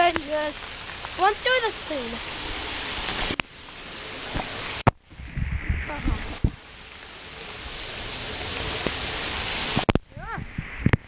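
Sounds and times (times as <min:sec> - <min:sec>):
shower water spraying: 0:00.0 - 0:04.8, 0:05.7 - 0:09.9.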